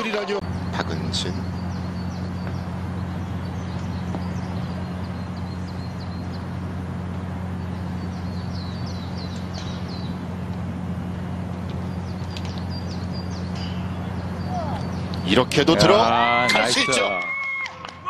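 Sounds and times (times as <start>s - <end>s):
steady low hum: 0.0s - 17.0s
birds chirping: 0.0s - 17.3s.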